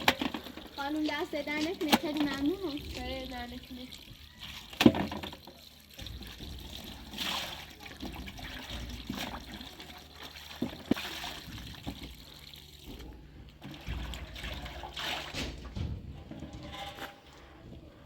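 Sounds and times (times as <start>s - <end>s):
water trickling and splashing: 0.0s - 17.7s.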